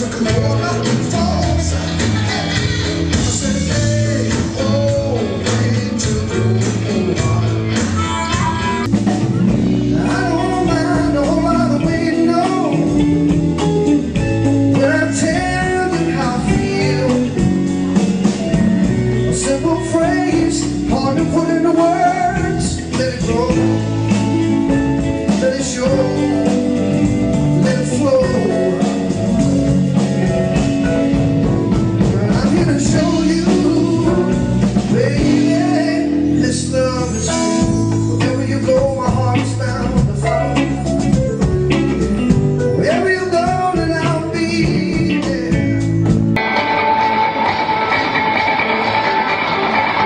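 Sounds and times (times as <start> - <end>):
man singing lead vocal: 0.0 - 30.6, 31.7 - 46.2
acoustic guitar: 0.0 - 50.0
live band accompaniment: 0.0 - 50.0.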